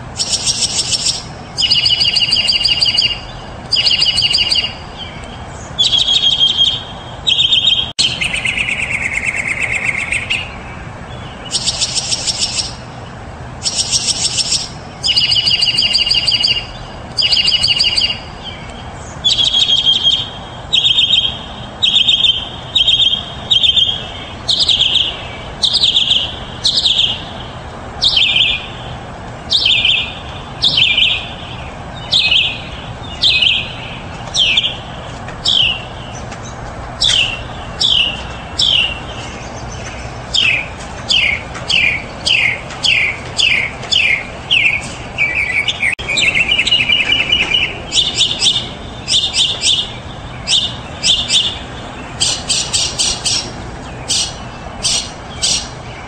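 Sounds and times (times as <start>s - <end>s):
mockingbird singing: 0.0s - 56.0s.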